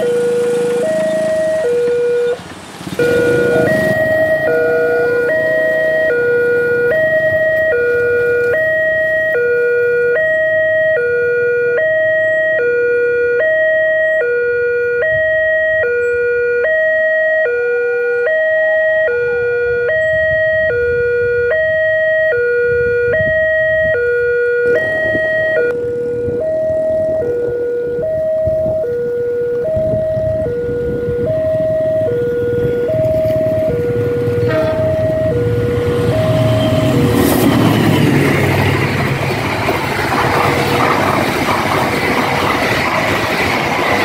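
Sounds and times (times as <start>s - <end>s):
electronic two-tone alarm: 0.0s - 2.4s, 3.0s - 37.2s.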